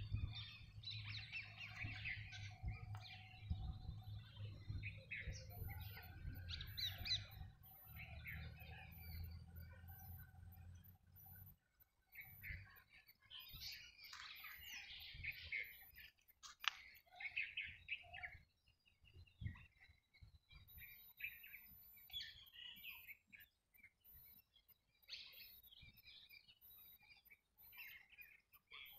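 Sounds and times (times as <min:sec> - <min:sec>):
faint birds chirping: 0:00.0 - 0:28.9.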